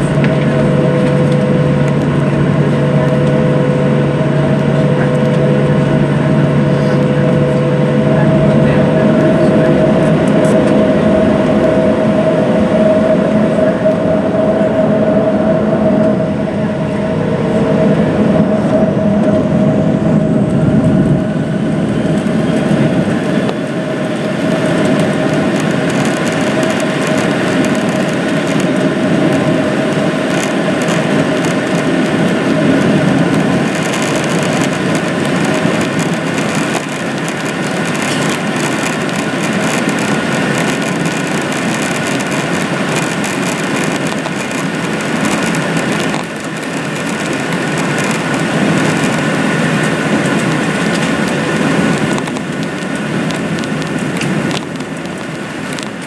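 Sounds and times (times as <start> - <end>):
jet engine whine: 0.0 - 56.0
low cabin rumble: 0.0 - 56.0.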